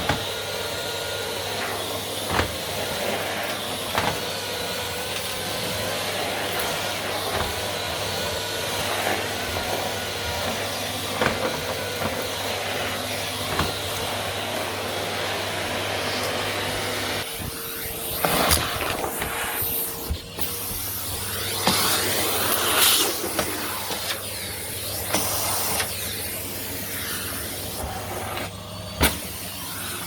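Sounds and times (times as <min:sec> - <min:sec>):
vacuum cleaner humming: 0:00.0 - 0:30.0.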